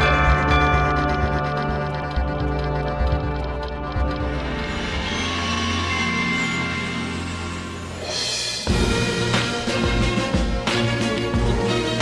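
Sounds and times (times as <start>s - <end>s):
news theme music: 0.0s - 12.0s.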